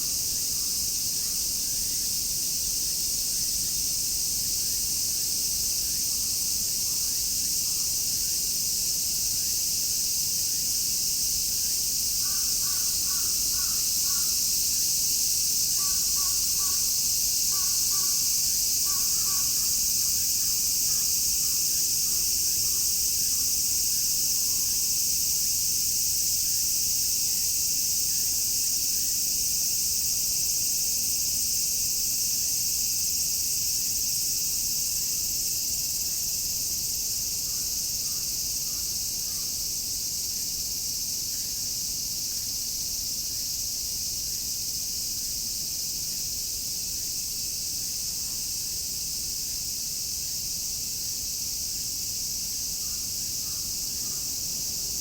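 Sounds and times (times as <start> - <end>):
cicadas shrilling: 0.0 - 55.0.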